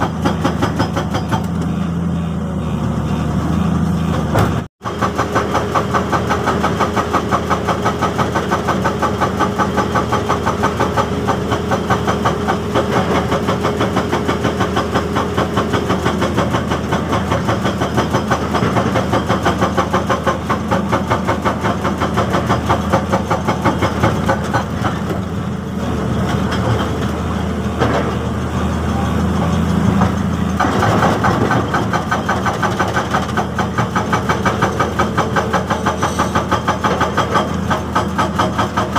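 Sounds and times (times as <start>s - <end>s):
hydraulic rock breaker hammering: 0.0s - 1.8s, 4.1s - 38.9s
excavator engine running: 0.0s - 38.9s.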